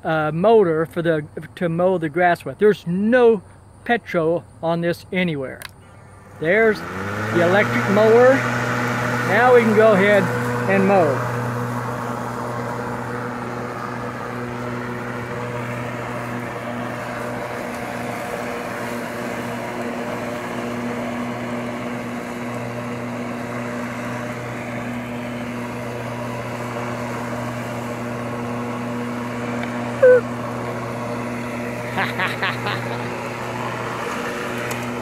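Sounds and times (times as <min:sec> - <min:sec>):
electric mower motor hum: 0:05.6 - 0:35.0.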